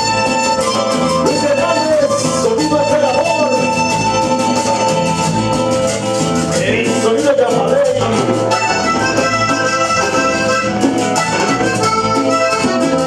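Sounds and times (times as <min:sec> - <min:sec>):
accordion melody: 0:00.0 - 0:13.0
cumbia band playing: 0:00.0 - 0:13.0.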